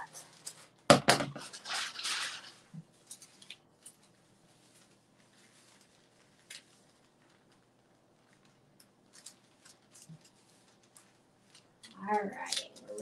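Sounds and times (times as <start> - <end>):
paper and fabric rustling: 0.0 - 13.0.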